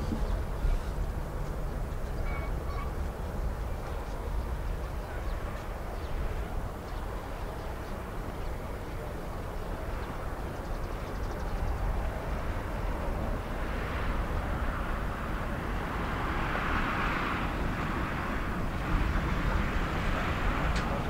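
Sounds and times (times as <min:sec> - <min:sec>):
distant jet engine: 0:00.0 - 0:21.0
wind rumble on microphone: 0:00.0 - 0:21.0.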